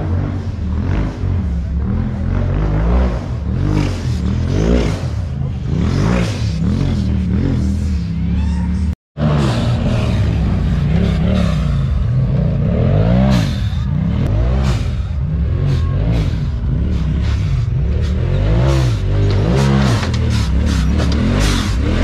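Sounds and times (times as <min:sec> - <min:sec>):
race engine revving: 0:00.0 - 0:22.0.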